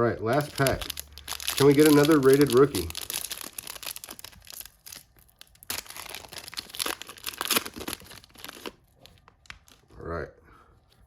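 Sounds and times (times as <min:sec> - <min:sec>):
plastic wrapper crinkling: 0:00.3 - 0:09.9.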